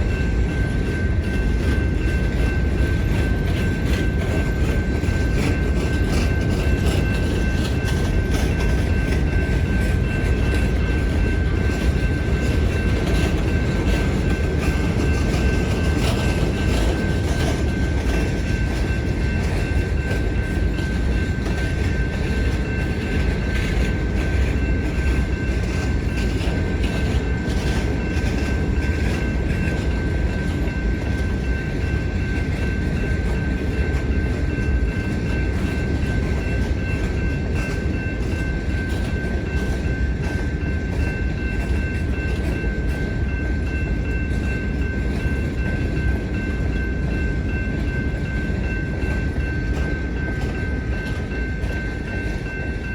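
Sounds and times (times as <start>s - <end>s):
freight train rumbling past: 0.0s - 52.9s.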